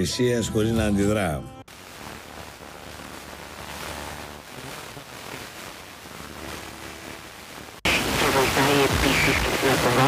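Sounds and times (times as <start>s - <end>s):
faint radio broadcast: 1.3s - 10.0s
radio static hiss: 1.7s - 10.0s.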